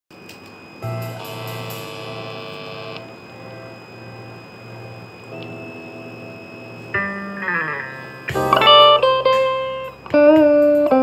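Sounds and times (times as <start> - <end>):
clean electric guitar notes: 0.8 - 11.0.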